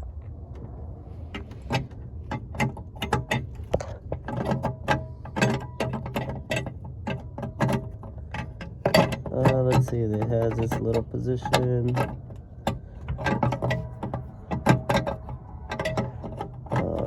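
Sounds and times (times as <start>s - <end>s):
steady low hum: 0.0s - 17.0s
plastic and metal clicks and rattles: 1.3s - 17.0s.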